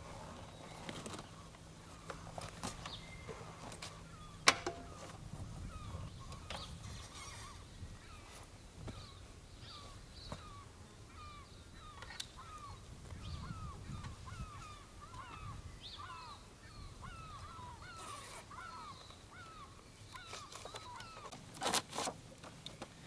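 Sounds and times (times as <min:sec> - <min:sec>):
flock of birds calling: 0:00.0 - 0:21.4.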